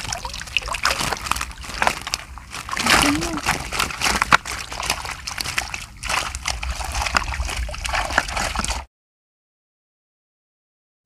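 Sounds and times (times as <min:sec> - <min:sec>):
water sloshing and splashing: 0:00.0 - 0:08.9.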